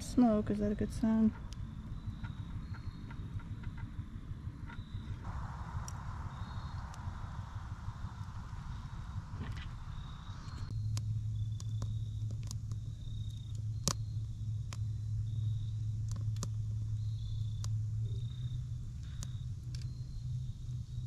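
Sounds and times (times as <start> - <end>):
steady low hum: 0.0 - 21.0
campfire crackling and popping: 1.3 - 21.0.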